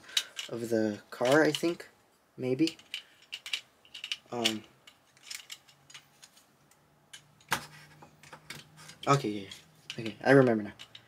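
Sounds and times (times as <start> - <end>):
plastic parts clicking: 0.1 - 0.6, 2.6 - 11.0.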